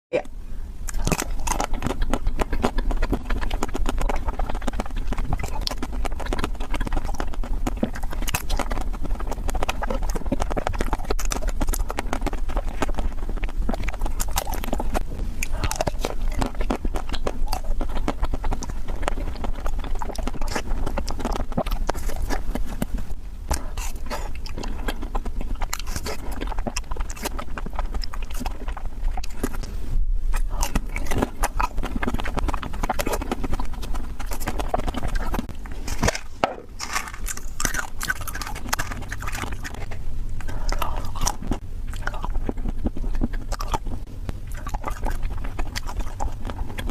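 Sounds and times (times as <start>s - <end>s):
crunchy biting and chewing: 0.7s - 46.9s.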